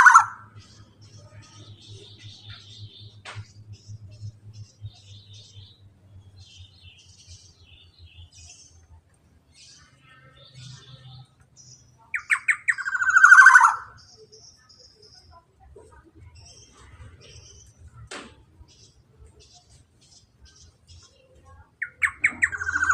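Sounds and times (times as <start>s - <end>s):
bird chirping and trilling: 0.0s - 22.9s.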